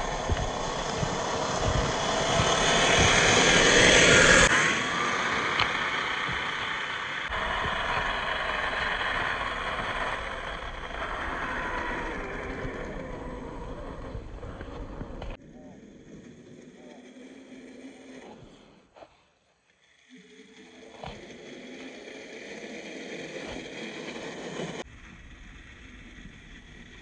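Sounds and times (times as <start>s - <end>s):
electric motor and gearbox whine: 0.0s - 19.0s, 19.7s - 27.0s.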